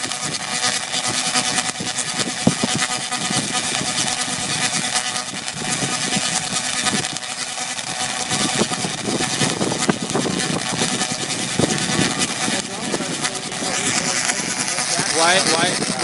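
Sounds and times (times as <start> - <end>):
tesla coil buzzing crackle: 0.0 - 16.0.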